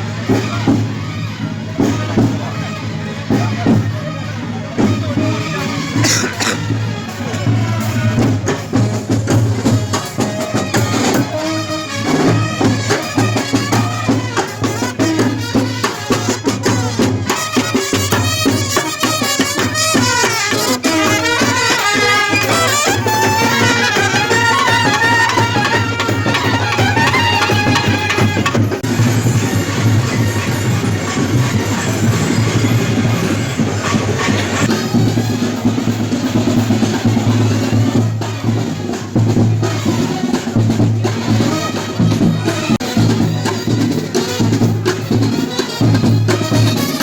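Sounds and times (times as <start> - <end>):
steady drumming: 0.0 - 47.0.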